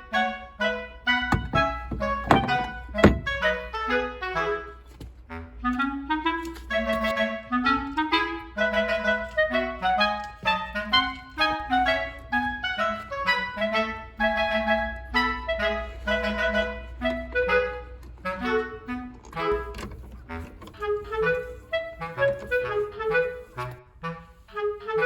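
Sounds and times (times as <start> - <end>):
lively woodwind melody: 0.0 - 25.0.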